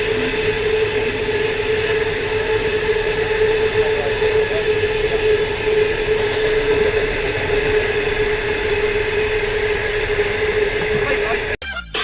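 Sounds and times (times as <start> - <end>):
train running on rails: 0.0 - 11.6.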